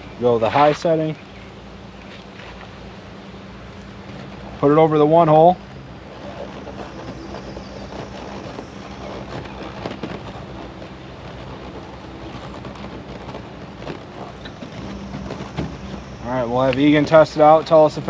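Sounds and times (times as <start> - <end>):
small fan humming: 0.0 - 18.0.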